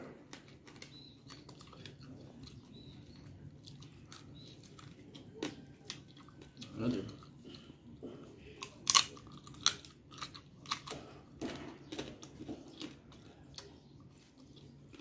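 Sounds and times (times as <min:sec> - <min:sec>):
person chewing with crunches: 0:00.0 - 0:15.0.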